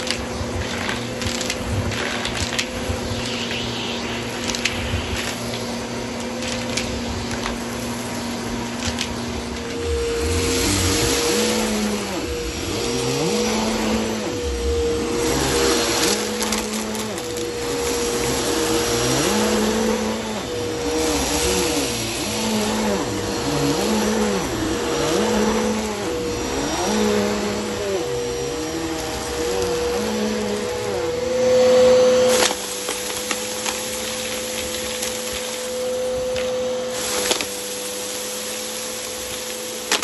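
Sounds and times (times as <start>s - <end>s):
vacuum cleaner motor whine: 0.0s - 40.0s.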